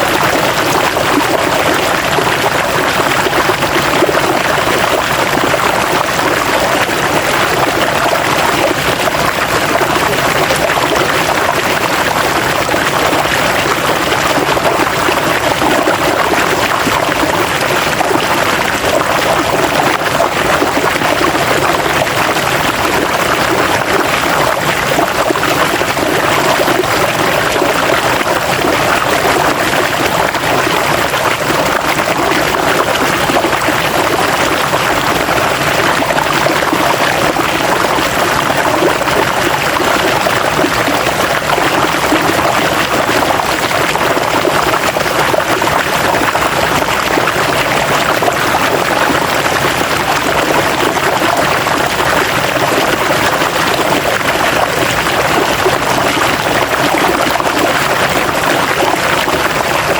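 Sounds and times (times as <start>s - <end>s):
river water flowing over rocks: 0.0s - 59.9s.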